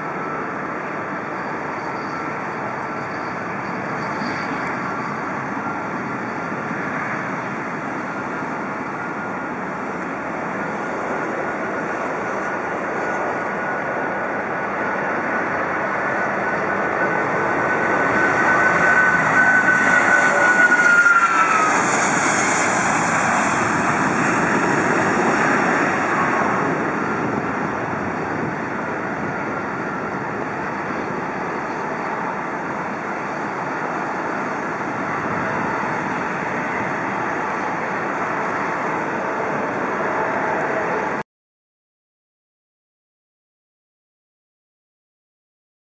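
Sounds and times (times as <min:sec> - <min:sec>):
jet engine roar: 0:00.0 - 0:41.2
jet engines whining: 0:00.0 - 0:41.2.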